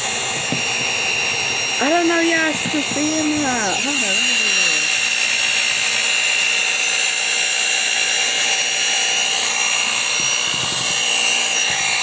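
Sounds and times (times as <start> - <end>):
electric mixer motor whine: 0.0 - 12.0.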